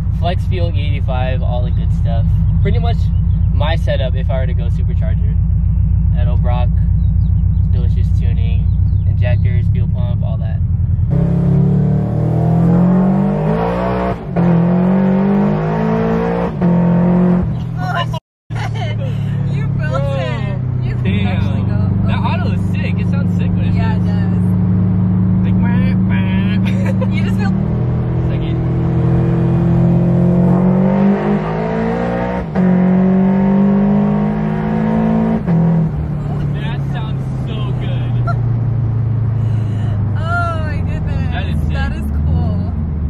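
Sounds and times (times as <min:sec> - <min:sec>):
car engine accelerating hard: 0:00.0 - 0:18.0, 0:18.7 - 0:43.0.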